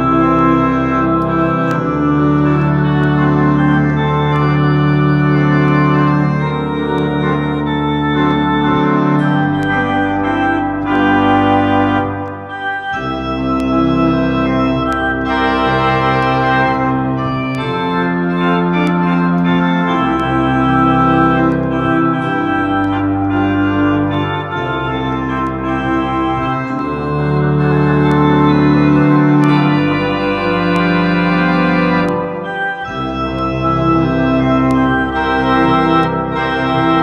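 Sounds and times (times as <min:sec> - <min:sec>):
electronic organ playing a hymn: 0:00.0 - 0:37.0.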